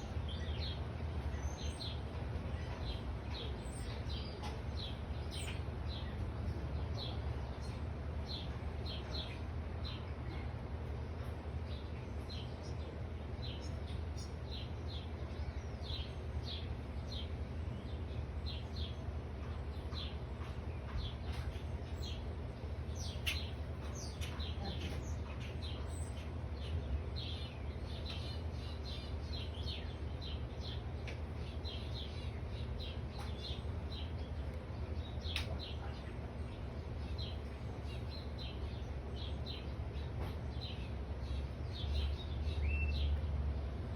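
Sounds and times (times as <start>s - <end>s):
low background rumble: 0.0s - 43.9s
songbirds chirping: 0.0s - 43.9s.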